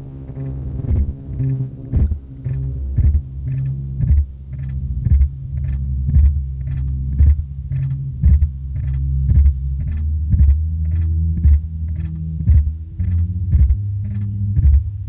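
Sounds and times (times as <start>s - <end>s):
clicking percussion beat: 0.0s - 15.0s
low bass line: 0.0s - 15.0s.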